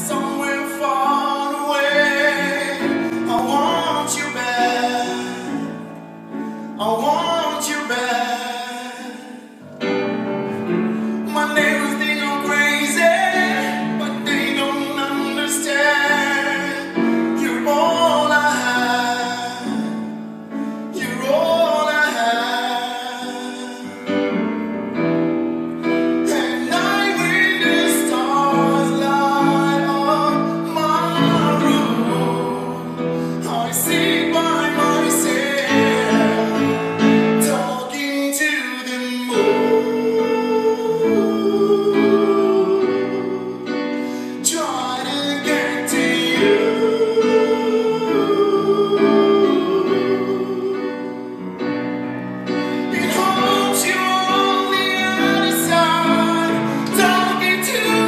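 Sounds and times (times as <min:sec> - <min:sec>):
man singing into microphone: 0:00.0 - 0:24.5, 0:25.8 - 0:51.8, 0:52.5 - 0:58.0
grand piano: 0:00.0 - 0:58.0.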